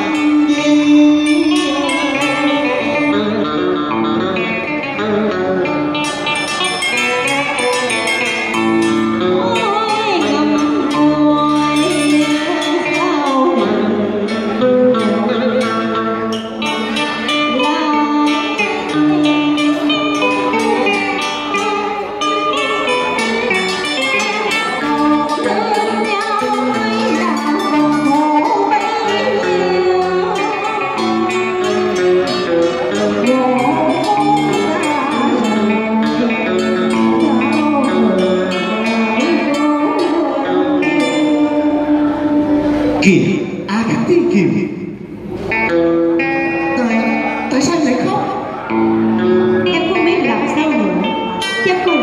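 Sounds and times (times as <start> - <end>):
woman singing with wavering notes: 0.0 - 43.0, 45.5 - 52.0
zither playing: 0.0 - 43.0, 48.4 - 52.0
electric guitar: 0.0 - 52.0.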